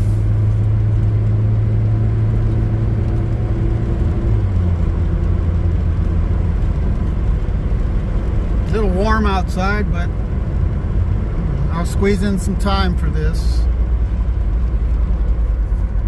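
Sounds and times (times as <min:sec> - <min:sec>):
pickup engine running: 0:00.0 - 0:16.0.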